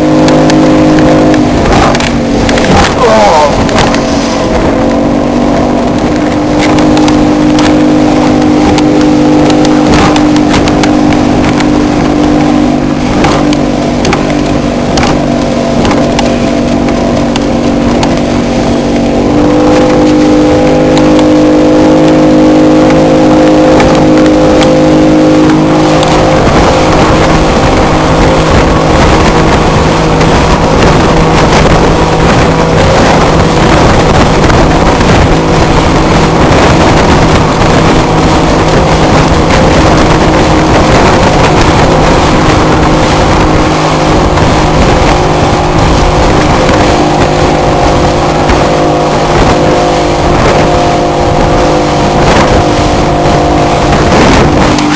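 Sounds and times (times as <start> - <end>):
outboard engine running: 0.0 - 54.9
rush of wind and water spray: 0.0 - 54.9.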